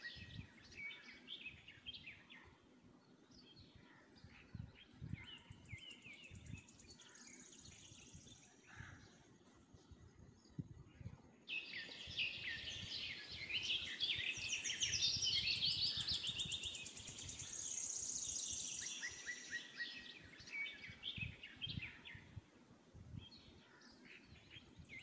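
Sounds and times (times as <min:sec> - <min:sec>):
birds chirping and singing: 0:00.0 - 0:22.4.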